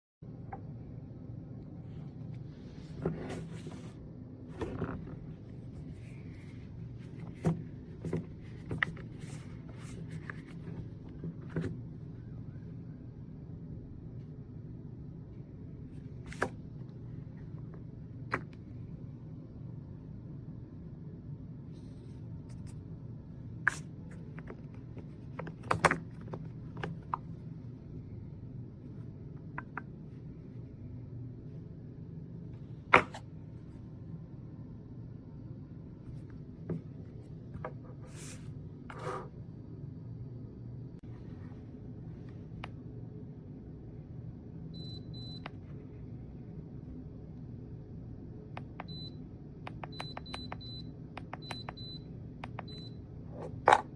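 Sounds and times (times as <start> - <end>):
steady low hum: 0.2 - 53.9.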